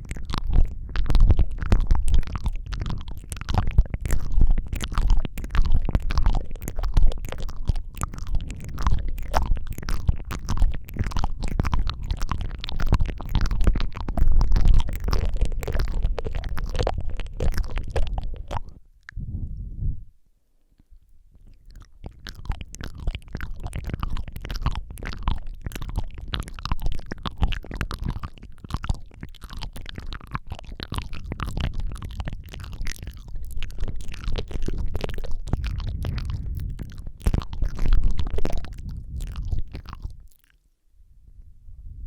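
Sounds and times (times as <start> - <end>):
wet mouth clicks and smacks: 0.0 - 19.2, 20.8 - 40.7
breath rumble on microphone: 0.0 - 20.2, 20.8 - 40.4, 41.0 - 42.0.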